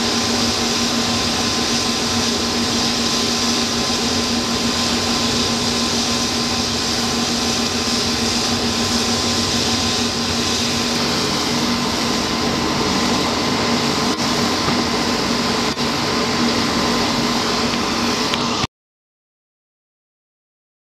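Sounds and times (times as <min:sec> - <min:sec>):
hovercraft engines whining: 0:00.0 - 0:18.7.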